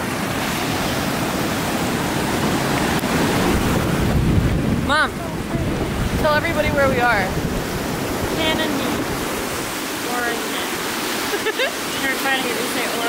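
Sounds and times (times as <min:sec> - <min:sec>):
wind rumbling on microphone: 0:00.0 - 0:11.4
ocean waves breaking on beach: 0:00.0 - 0:13.0.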